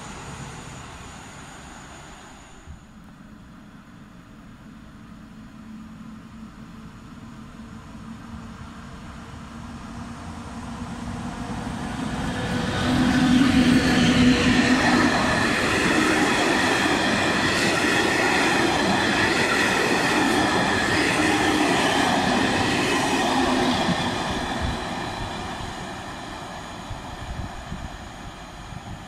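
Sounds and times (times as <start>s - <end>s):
passenger train passing: 0.0s - 29.0s.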